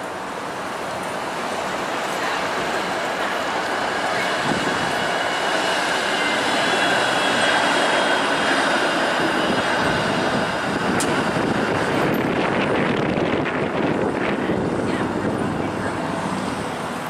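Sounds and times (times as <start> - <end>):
streetcar wheels rumbling on rails: 0.0 - 17.0.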